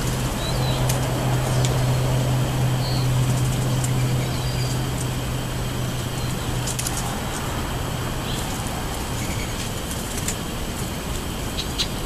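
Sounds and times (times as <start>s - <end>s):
small birds chirping: 0.0s - 7.4s, 8.2s - 12.0s
low mechanical hum: 0.0s - 12.0s.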